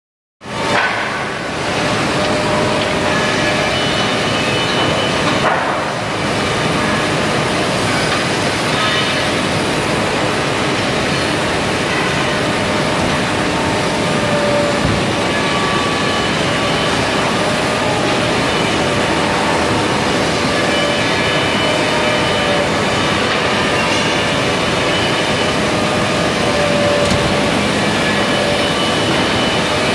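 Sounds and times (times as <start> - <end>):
factory machinery noise: 0.4 - 29.9.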